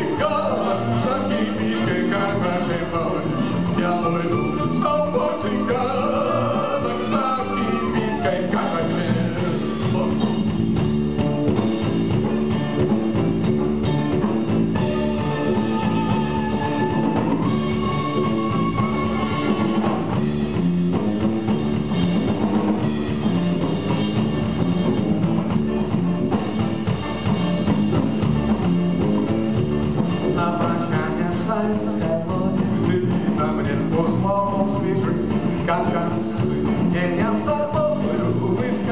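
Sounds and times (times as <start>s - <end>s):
live band playing: 0.0s - 38.9s.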